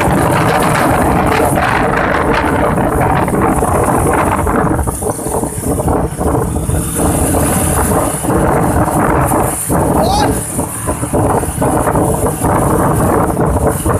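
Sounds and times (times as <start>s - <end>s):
vehicle engine and road noise: 0.0s - 13.9s.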